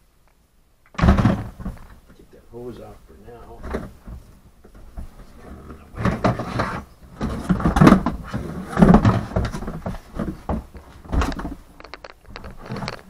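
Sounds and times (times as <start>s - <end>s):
plastic parts scraping and knocking: 0.9s - 2.2s, 3.3s - 13.0s.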